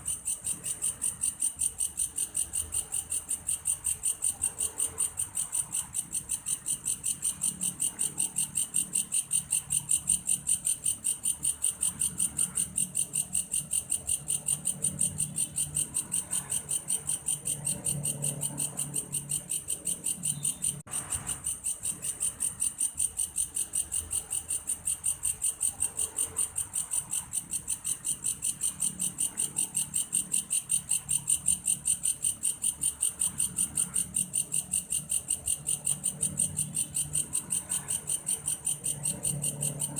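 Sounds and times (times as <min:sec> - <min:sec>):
grasshopper calling in rapid pulses: 0:00.0 - 0:39.9.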